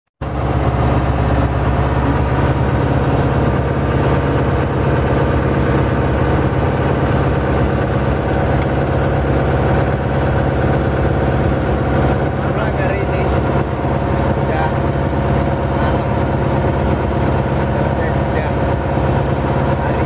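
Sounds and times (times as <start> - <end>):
boat engine running: 0.2 - 20.0.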